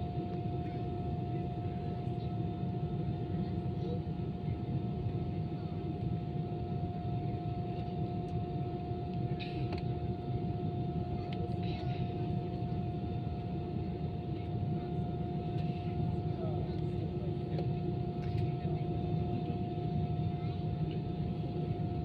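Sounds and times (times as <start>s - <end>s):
aircraft cabin rumble and whine: 0.0s - 22.0s.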